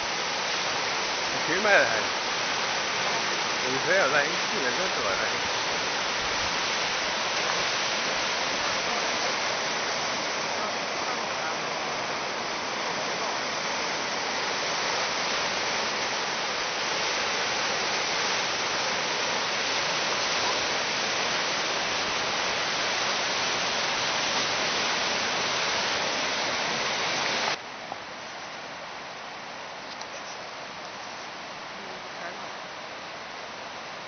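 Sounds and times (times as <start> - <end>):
river rushing through rapids: 0.0 - 34.0.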